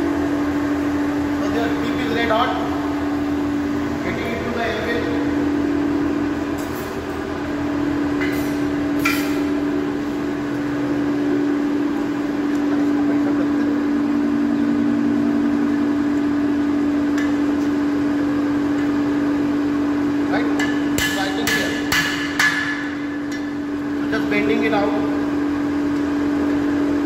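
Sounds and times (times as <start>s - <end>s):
electric fan motor humming: 0.0s - 27.0s.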